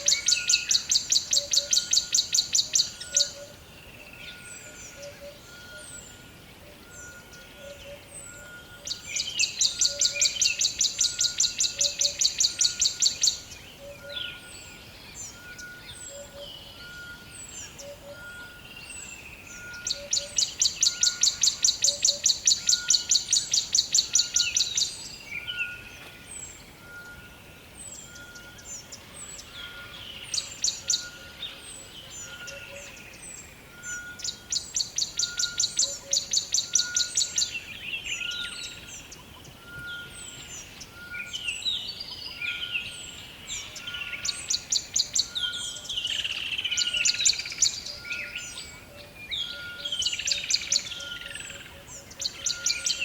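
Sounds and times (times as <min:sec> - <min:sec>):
bird and animal calls: 0:00.0 - 0:53.0.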